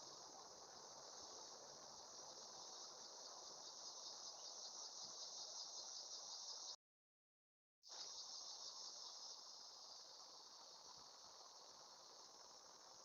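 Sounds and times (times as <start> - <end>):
insects trilling: 0.0 - 6.8, 7.9 - 13.0.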